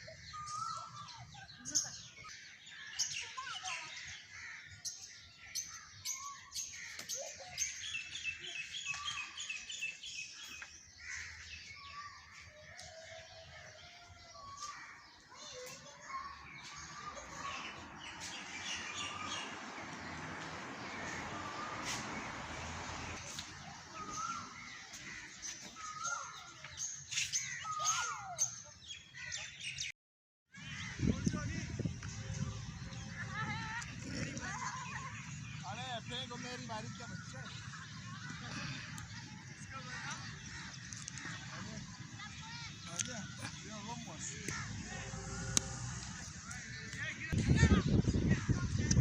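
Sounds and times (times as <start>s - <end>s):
birds chirping and calling: 0.0s - 29.9s, 30.6s - 49.0s.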